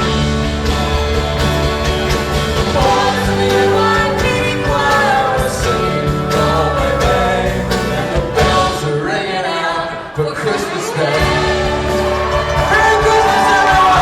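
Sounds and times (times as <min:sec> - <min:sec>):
steady drum beat: 0:00.0 - 0:09.1, 0:11.2 - 0:14.0
guitars: 0:00.0 - 0:14.0
person singing: 0:02.6 - 0:14.0.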